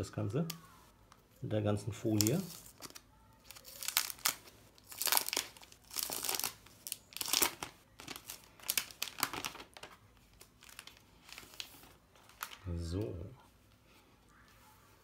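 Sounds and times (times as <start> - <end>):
plastic film crinkling: 2.0 - 14.5.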